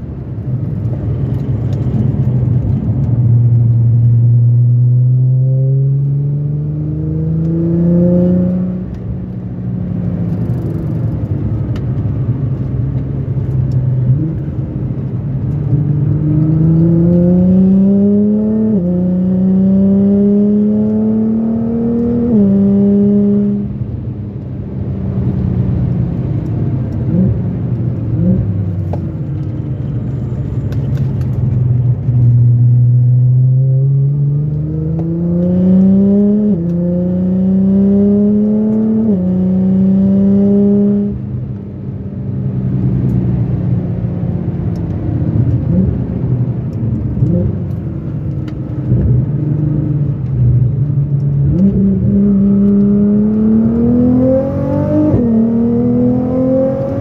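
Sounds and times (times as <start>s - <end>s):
tyre and road noise: 0.0s - 57.0s
car engine accelerating: 0.5s - 57.0s.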